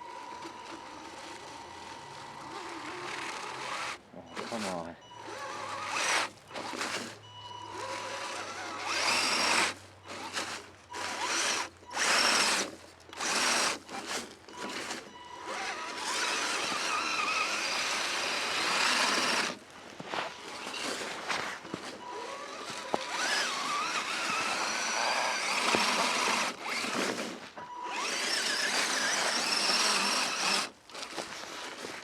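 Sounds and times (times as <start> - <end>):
electric motor whining: 0.0 - 19.6, 20.4 - 32.0.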